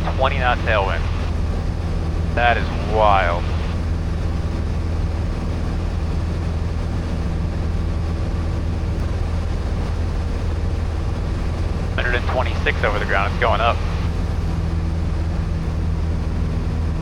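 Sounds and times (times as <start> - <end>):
light airplane engine droning: 0.0 - 17.0.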